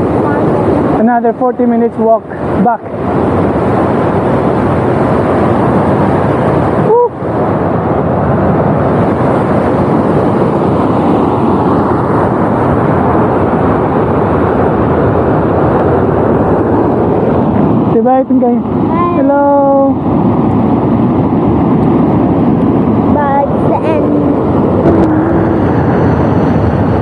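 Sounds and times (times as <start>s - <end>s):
waterfall roaring: 0.0s - 21.2s, 21.8s - 27.0s.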